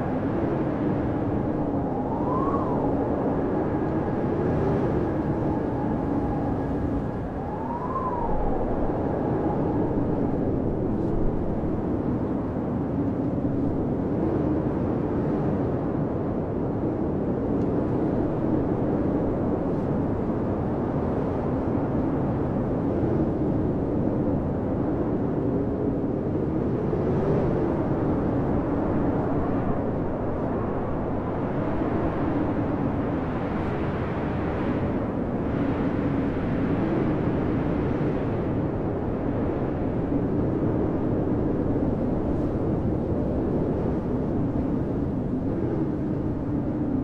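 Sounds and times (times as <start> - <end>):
blizzard wind howling: 0.0 - 47.0.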